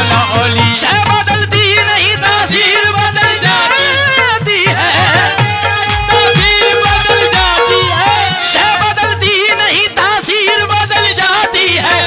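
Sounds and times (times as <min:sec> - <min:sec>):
instrumental accompaniment: 0:00.0 - 0:12.0
wavering ornamented singing: 0:01.7 - 0:12.0.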